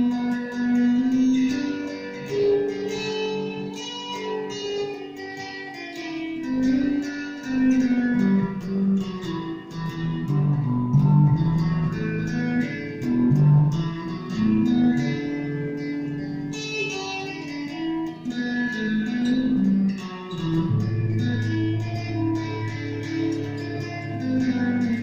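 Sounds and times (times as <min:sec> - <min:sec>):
electric guitar picking single notes: 0:00.0 - 0:25.0.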